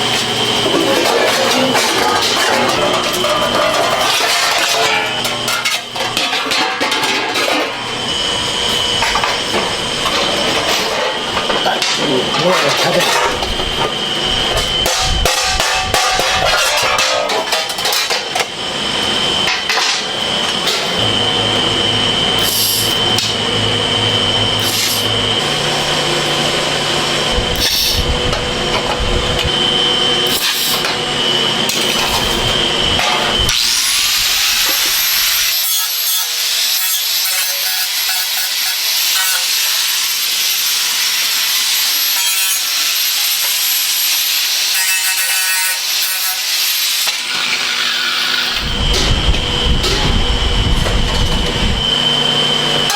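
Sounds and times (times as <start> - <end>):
power tool whine: 0.0 - 52.9
power tool working material: 0.0 - 52.9.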